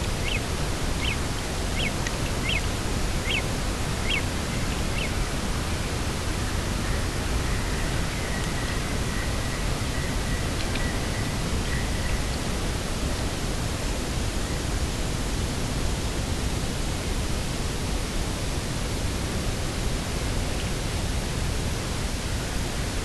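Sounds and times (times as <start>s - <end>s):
rushing wind: 0.0s - 23.0s
wind rumble on microphone: 0.0s - 23.0s.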